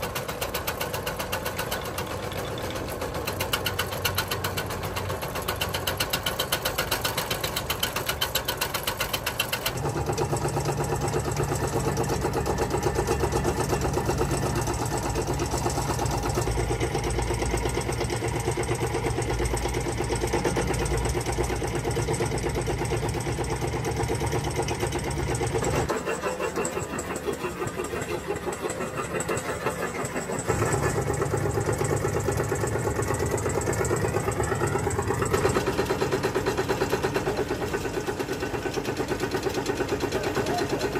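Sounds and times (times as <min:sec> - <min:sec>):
machine engine running: 0:00.0 - 0:40.9.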